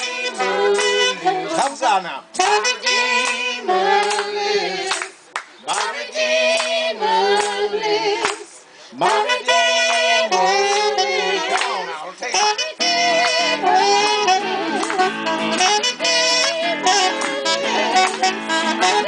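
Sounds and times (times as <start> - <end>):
choir singing gospel: 0.0 - 19.0
hands clapping along: 0.0 - 19.0.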